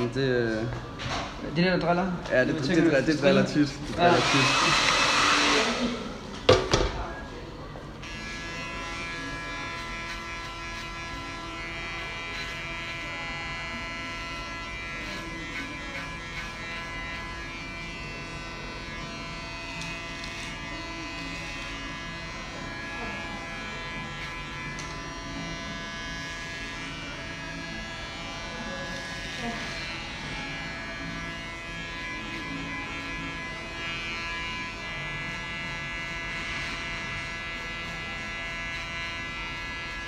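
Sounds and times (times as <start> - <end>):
electric hair clipper buzzing: 2.7 - 6.6, 8.0 - 40.0.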